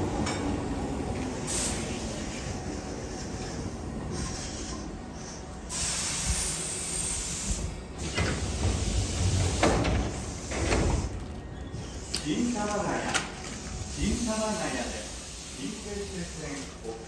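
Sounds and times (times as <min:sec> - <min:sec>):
electric train slowing to a stop: 0:00.0 - 0:15.6
loud hiss of air: 0:01.3 - 0:11.1, 0:11.8 - 0:17.0.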